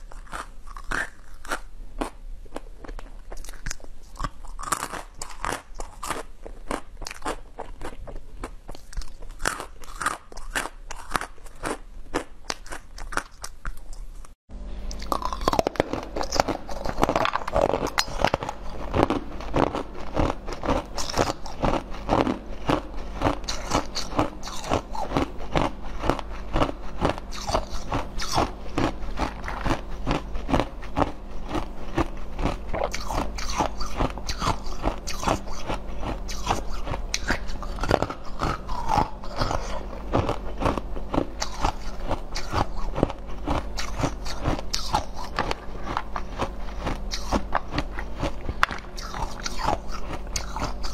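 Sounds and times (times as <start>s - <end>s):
crunchy chewing: 0.0s - 50.9s
low steady hum: 0.0s - 50.9s.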